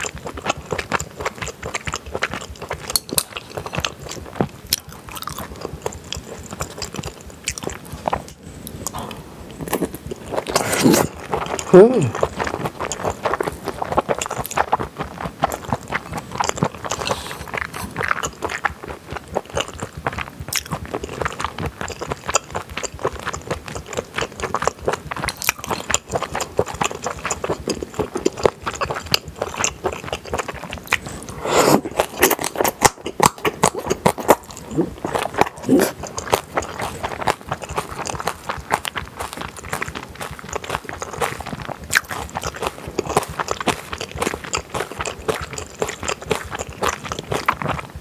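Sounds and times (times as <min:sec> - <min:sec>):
wet chewing and lip smacking: 0:00.0 - 0:48.0.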